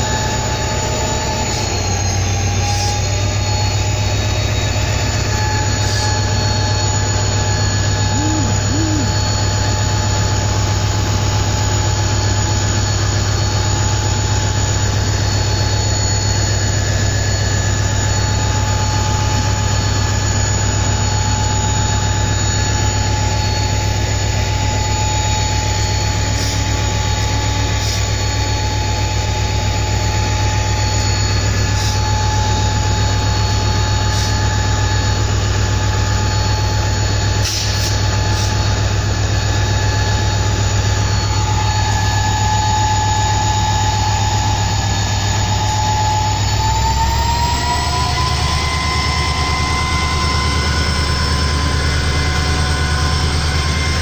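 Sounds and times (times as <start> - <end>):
high-pitched turbocharger whine: 0.0 - 54.0
locomotive engines droning: 0.0 - 54.0.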